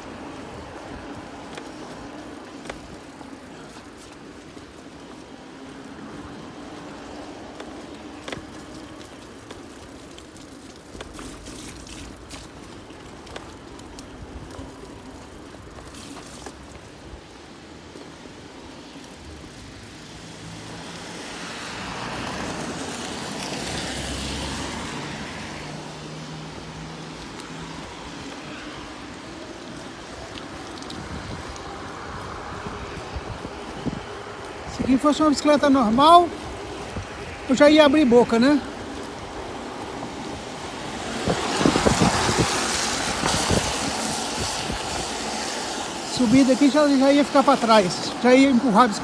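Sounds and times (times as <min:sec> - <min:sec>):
bicycle tyres on wet road: 0:00.0 - 0:49.0
vehicle passing on wet road: 0:00.0 - 0:49.0.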